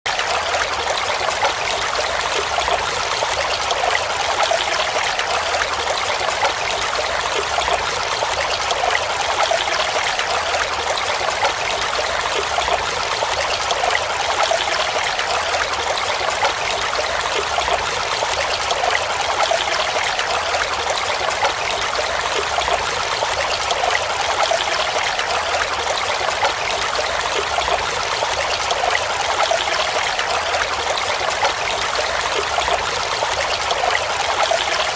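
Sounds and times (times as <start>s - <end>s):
stream splashing over rocks: 0.1s - 34.9s.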